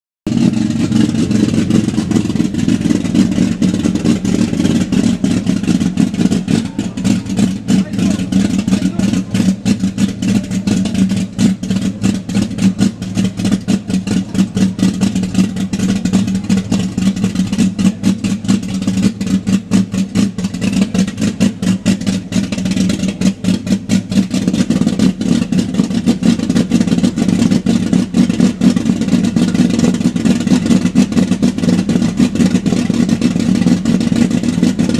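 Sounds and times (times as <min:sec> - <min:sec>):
car engine with exhaust rumble: 0:00.2 - 0:34.9.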